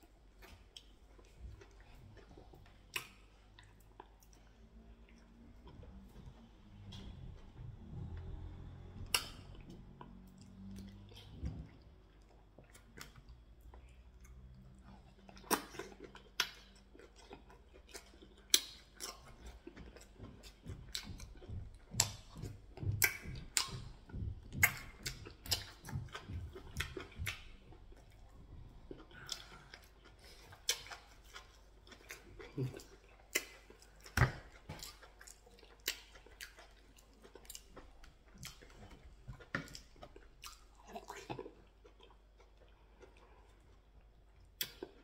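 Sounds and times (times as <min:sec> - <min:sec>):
person chewing food: 0:00.0 - 0:45.0.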